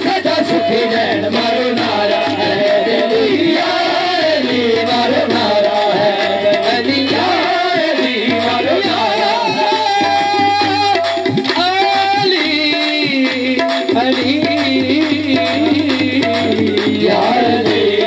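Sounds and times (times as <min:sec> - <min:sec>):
tabla drumming: 0:00.0 - 0:18.0.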